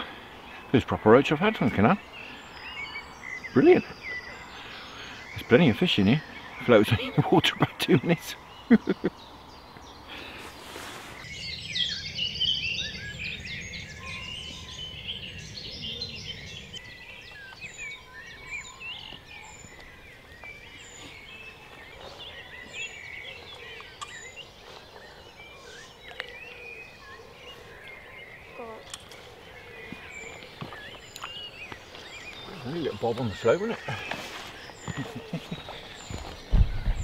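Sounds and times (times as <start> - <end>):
songbirds singing and calling: 0.0 - 37.0.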